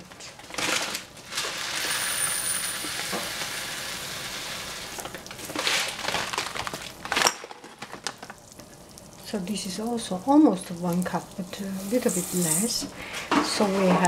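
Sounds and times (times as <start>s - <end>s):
rice sizzling in hot oil: 0.6s - 12.9s.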